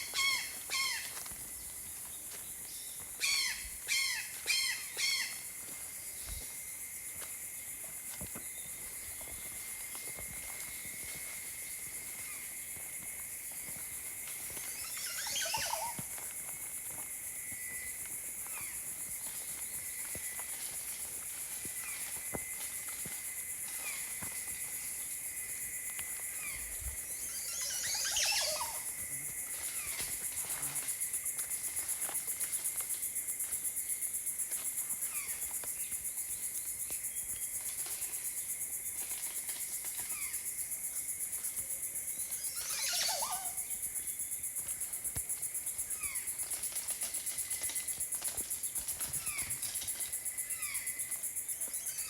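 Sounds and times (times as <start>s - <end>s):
pulsing insect chorus: 0.0s - 52.0s.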